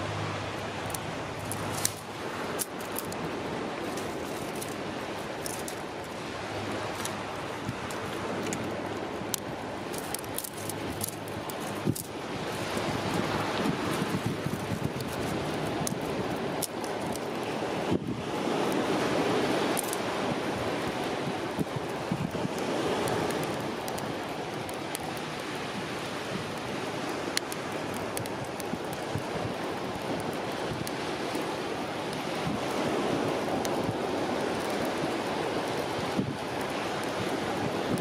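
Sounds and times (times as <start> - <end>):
surf on rocky shore: 0.0 - 38.0
twig fire crackling: 0.0 - 38.0
wind: 0.0 - 38.0.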